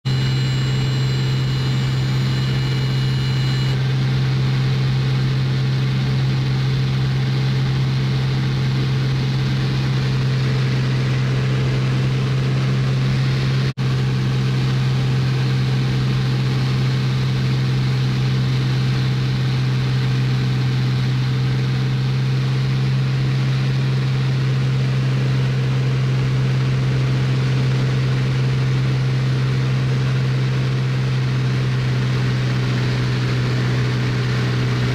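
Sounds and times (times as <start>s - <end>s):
propeller plane engine drone: 0.0s - 34.9s.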